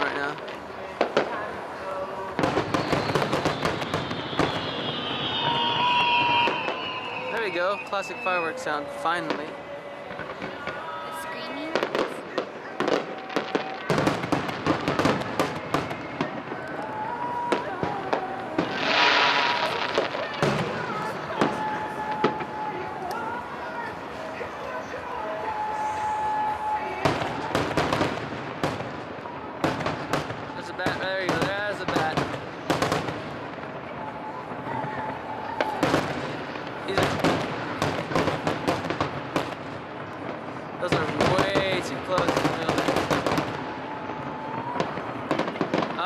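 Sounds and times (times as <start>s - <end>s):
fireworks cracking and popping: 0.0s - 46.0s.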